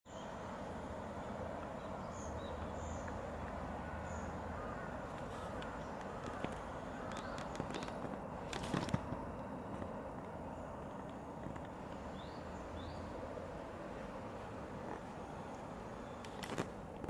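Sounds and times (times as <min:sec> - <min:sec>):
outdoor background noise: 0:00.1 - 0:17.0.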